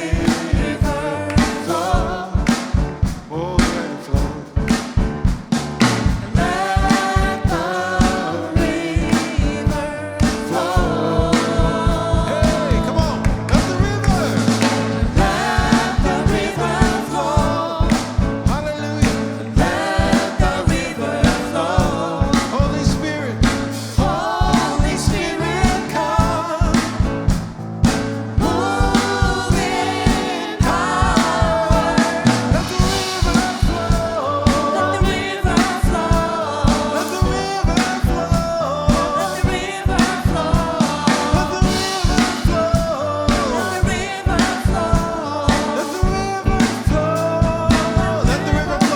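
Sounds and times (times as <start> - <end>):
drum kit beat: 0.0 - 48.9
gospel choir singing: 0.0 - 48.9.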